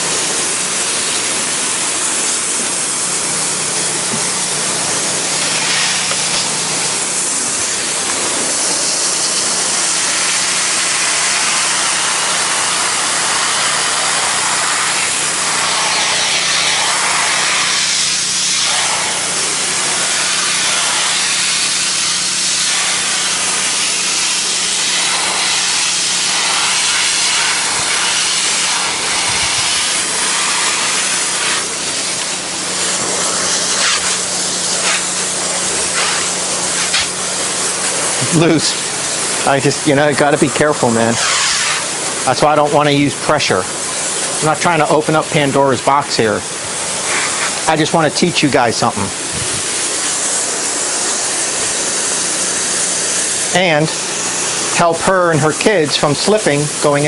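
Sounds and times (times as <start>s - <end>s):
pressure washer low hum: 0.0s - 57.0s
water spray hissing on wood: 0.0s - 57.0s.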